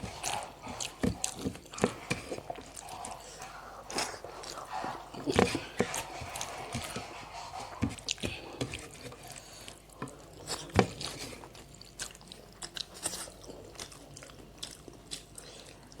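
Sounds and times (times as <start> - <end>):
chewing and biting food: 0.0 - 16.0
food crunching: 0.0 - 16.0.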